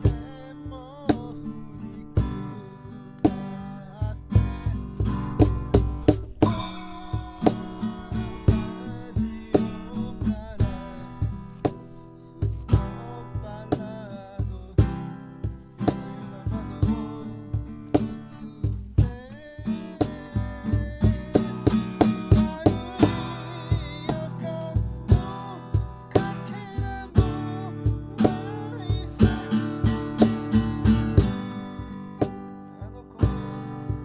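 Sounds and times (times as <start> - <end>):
steady beat: 0.0 - 34.0
strummed acoustic guitar: 0.0 - 34.0.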